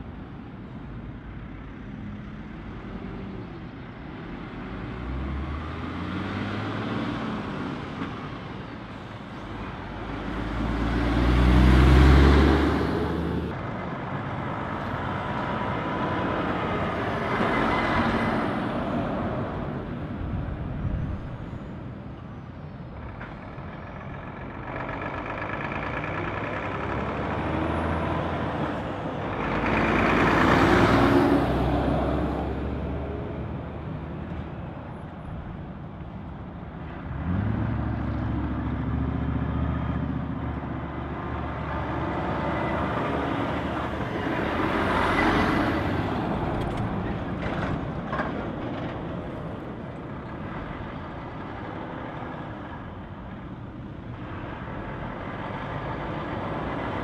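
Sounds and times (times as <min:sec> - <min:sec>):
trucks passing at low speed: 0:00.0 - 0:57.0.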